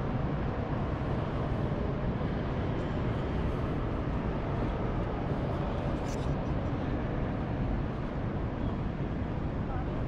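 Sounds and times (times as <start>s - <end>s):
indoor hall rumble and hiss: 0.0s - 10.0s.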